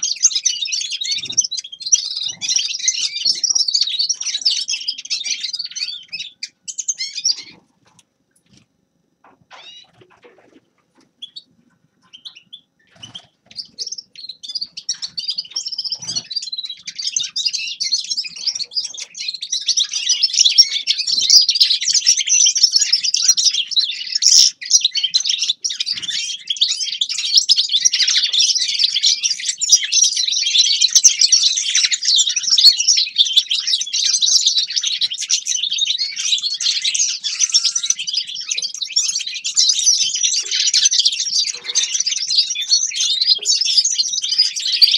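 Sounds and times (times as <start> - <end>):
finch twittering song: 0.0 - 7.6, 9.2 - 10.2, 11.2 - 44.9.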